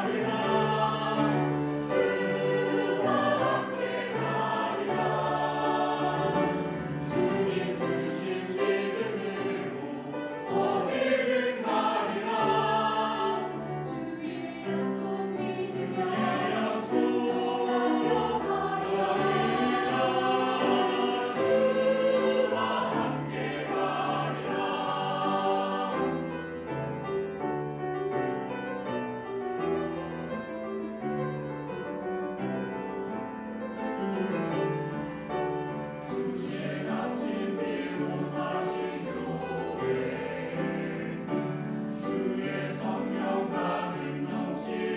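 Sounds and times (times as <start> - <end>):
choir singing a hymn: 0.0 - 29.2, 29.8 - 44.9
grand piano: 0.0 - 44.9.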